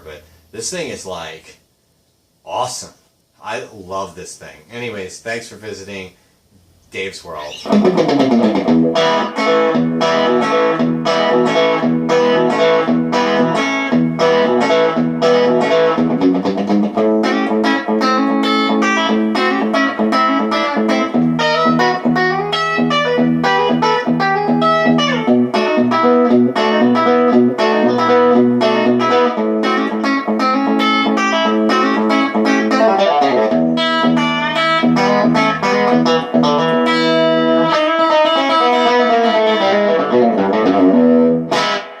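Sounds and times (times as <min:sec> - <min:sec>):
electric guitar music: 0:07.6 - 0:42.0.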